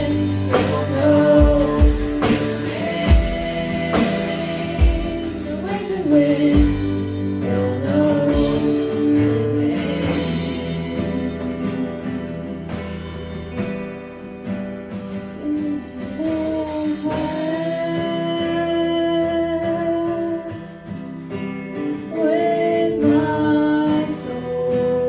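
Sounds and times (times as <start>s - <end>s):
person singing: 0.0s - 13.9s, 15.2s - 25.0s
band playing worship song: 0.0s - 25.0s.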